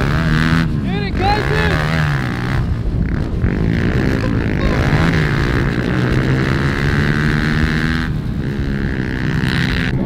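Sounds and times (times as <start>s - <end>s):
motorbike engine at high revs: 0.0s - 10.0s.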